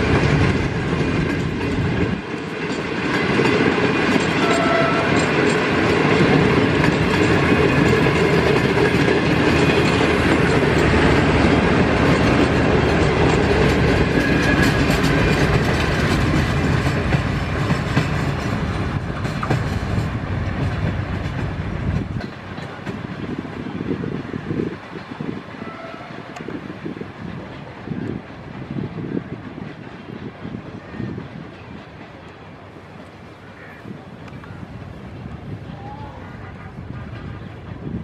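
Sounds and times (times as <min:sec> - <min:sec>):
train wheels clacking over rails: 0:00.0 - 0:38.0.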